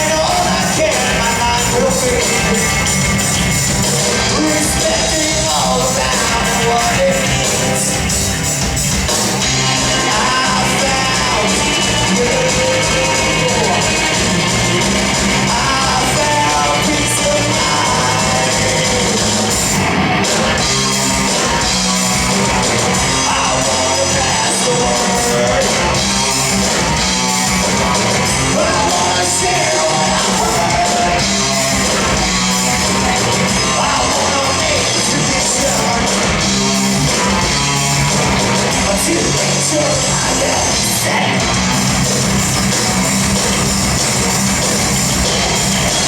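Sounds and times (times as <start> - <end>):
person singing: 0.0 - 3.3, 4.1 - 8.1, 9.4 - 19.8, 20.4 - 46.0
live rock band playing: 0.0 - 46.0.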